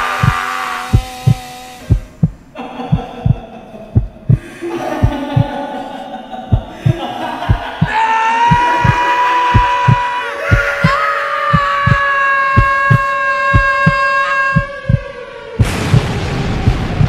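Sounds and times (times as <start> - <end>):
heartbeat thumps: 0.0 - 5.7, 6.3 - 17.0
eerie drone tones: 0.0 - 17.0.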